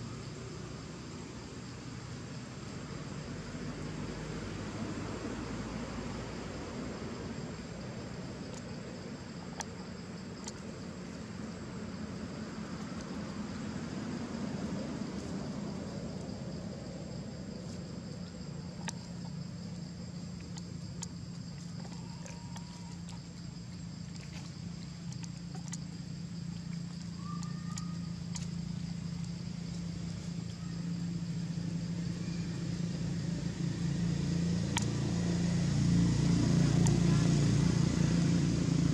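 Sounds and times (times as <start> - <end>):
vehicle engine drone: 0.0 - 38.9.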